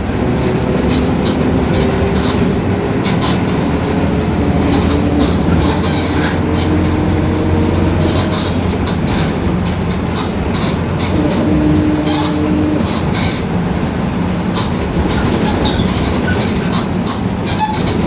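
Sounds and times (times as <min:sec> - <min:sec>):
mid-pitched differential hum: 0:00.0 - 0:15.2
bus body rattles: 0:00.0 - 0:18.0
bus drivetrain and road rumble: 0:00.0 - 0:18.0.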